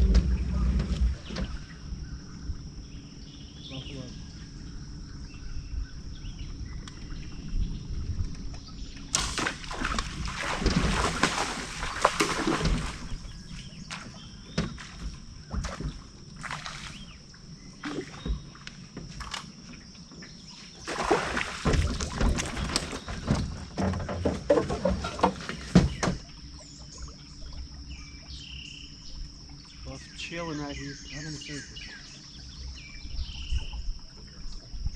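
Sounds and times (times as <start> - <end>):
water splashing beside a boat: 6.6 - 34.9.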